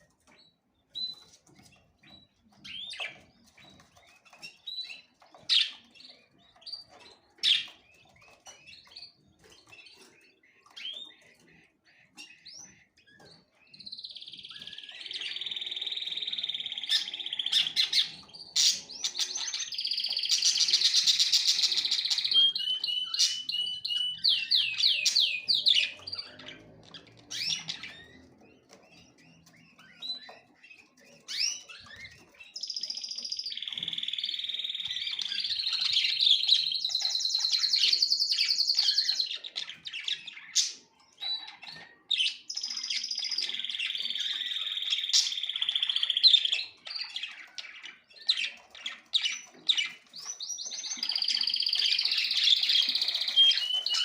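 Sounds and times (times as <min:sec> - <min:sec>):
songbirds trilling and chirping: 0:00.0 - 0:54.0.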